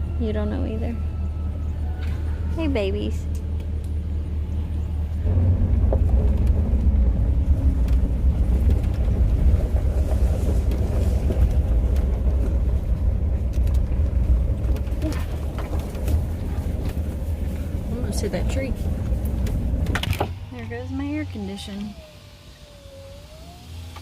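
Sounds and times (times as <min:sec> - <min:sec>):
tractor engine under load: 0:03.5 - 0:24.0.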